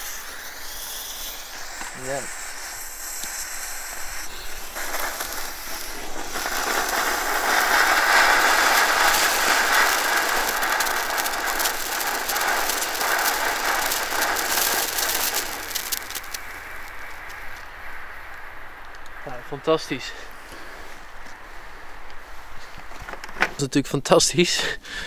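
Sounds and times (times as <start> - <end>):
firework hissing and crackling: 0.0 - 25.0.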